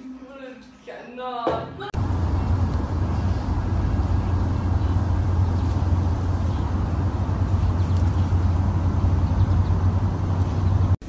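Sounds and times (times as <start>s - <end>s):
loud low rumble: 2.0s - 11.0s.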